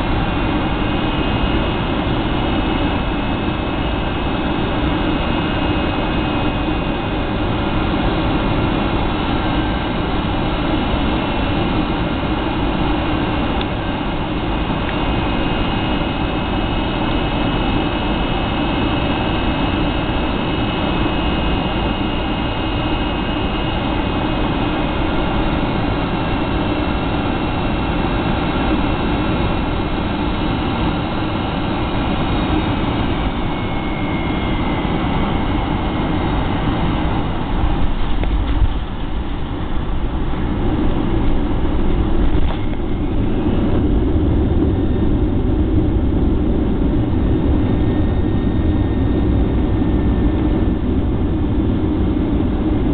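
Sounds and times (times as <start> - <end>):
jet engines and air rushing: 0.0 - 52.9.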